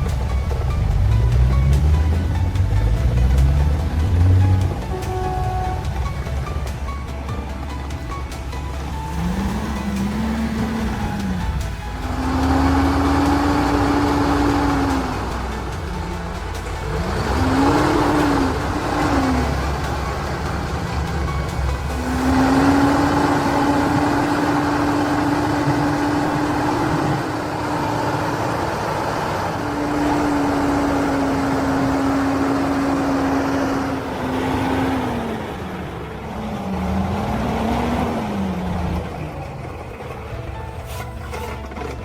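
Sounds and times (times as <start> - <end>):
truck engine revving under load: 0.0 - 42.0.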